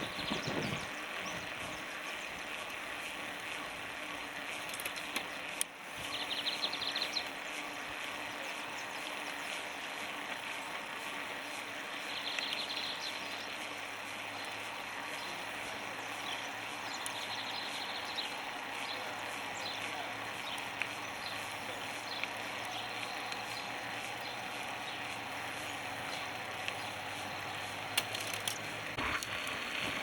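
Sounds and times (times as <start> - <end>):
bicycle rolling: 0.0 - 30.0
wind: 0.0 - 30.0.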